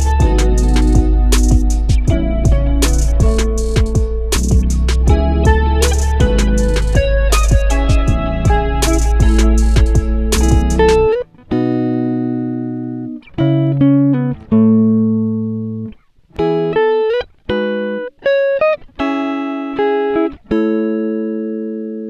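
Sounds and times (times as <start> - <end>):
plucked guitar chords: 0.0 - 22.0.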